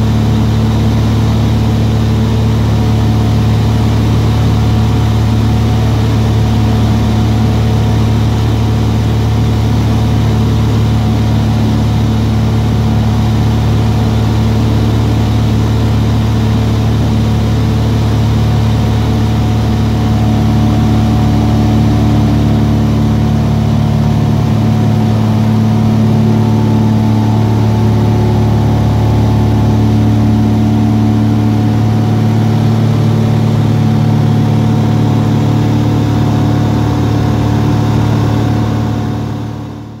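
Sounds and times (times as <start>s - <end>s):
propeller plane engine drone: 0.0s - 40.0s.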